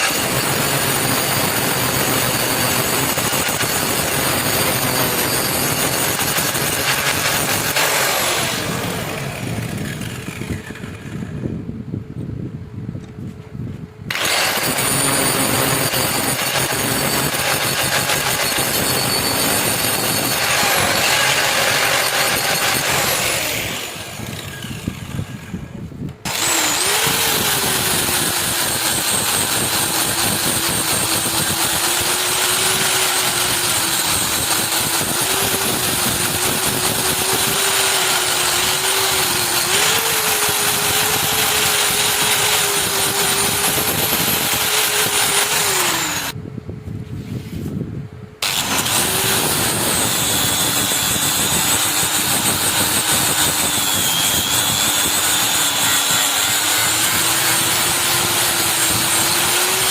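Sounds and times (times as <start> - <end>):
electric power tool on metal: 0.0 - 11.5, 14.1 - 46.4, 48.4 - 59.9.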